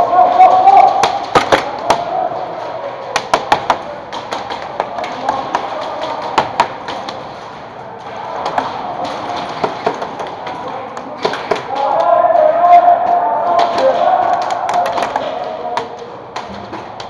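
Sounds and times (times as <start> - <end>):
pellets striking wooden walls: 0.0 - 2.3, 3.0 - 7.4, 8.2 - 17.0.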